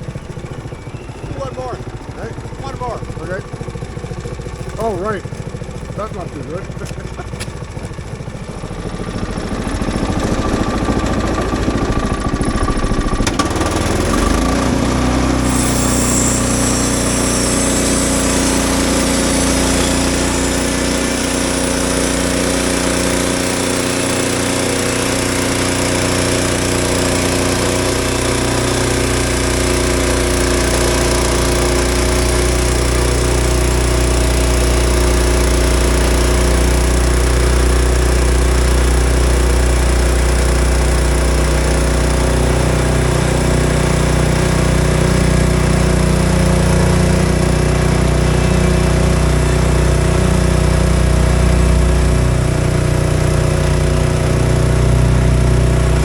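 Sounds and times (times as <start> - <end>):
engine running at high speed: 0.0 - 56.0.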